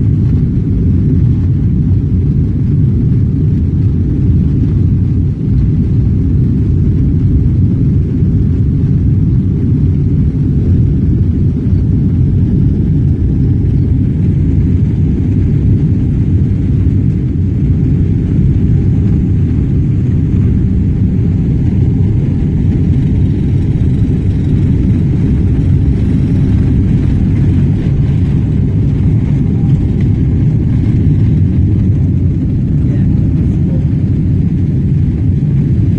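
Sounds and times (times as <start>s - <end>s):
airplane cabin takeoff rumble: 0.0s - 35.9s.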